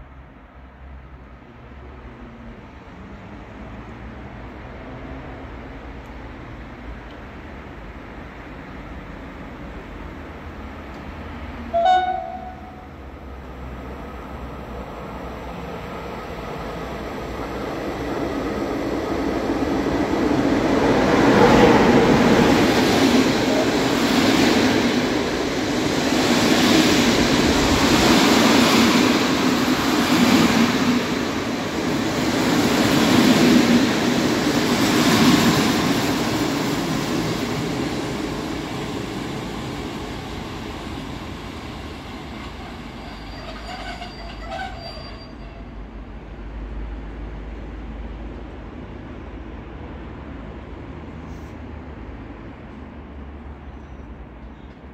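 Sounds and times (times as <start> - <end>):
train rumbling on rails: 0.0 - 54.9.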